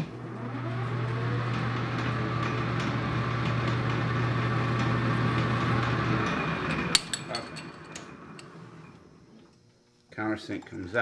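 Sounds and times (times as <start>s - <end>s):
lathe motor hum: 0.0s - 9.2s.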